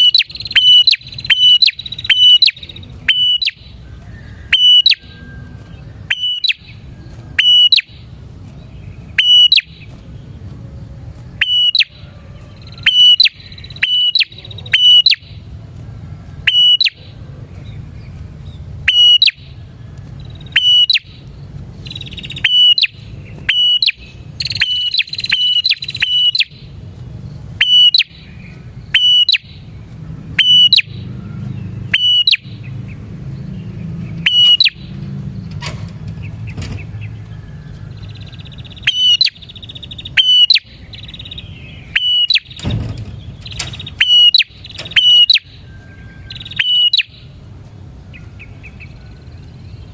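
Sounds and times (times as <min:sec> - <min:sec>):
bird sharp chirps: 0:00.0 - 0:10.6, 0:11.3 - 0:15.6, 0:16.4 - 0:47.4.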